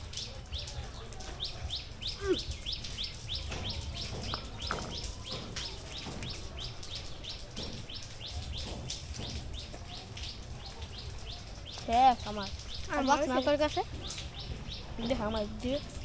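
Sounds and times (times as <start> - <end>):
bird chirping: 1.4 - 16.0.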